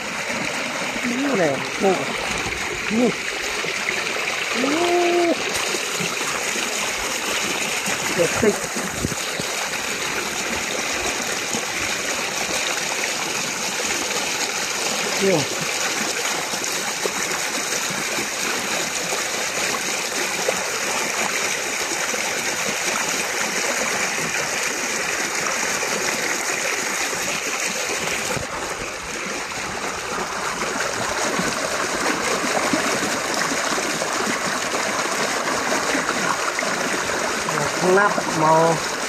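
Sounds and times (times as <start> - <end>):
water rushing through ditch: 0.0 - 39.0.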